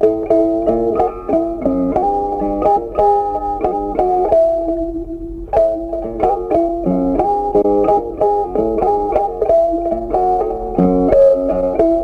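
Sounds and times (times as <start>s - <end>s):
plucked melody with bass notes: 0.0s - 12.0s.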